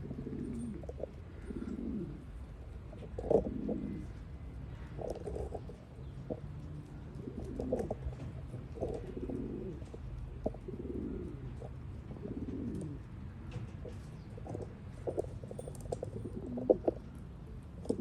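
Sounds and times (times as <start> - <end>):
pigeons cooing: 0.0 - 17.2, 17.8 - 18.0.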